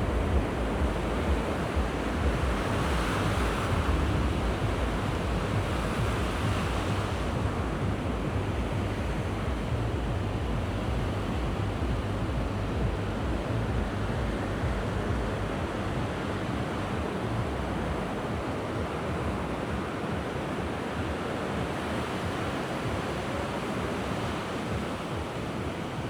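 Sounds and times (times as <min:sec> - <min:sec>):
sea waves washing onto beach: 0:00.0 - 0:26.0
wind buffeting microphone: 0:00.0 - 0:26.0.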